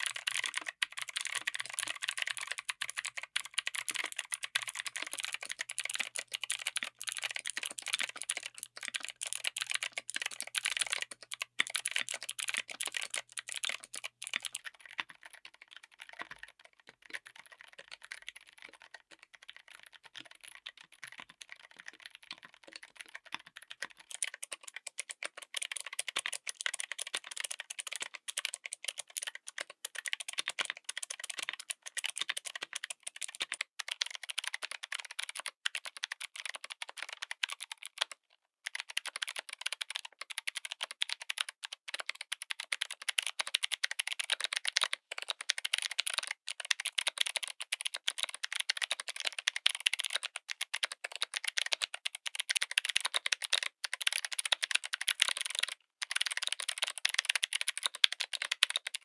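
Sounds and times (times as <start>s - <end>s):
fast typing on mechanical keyboard: 0.0s - 59.0s.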